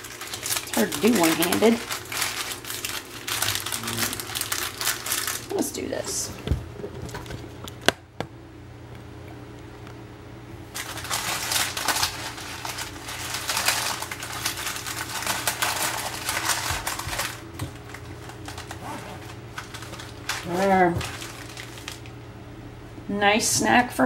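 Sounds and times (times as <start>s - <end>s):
parchment crinkling: 0.0s - 7.8s, 10.7s - 22.2s
steady low hum: 0.0s - 24.0s.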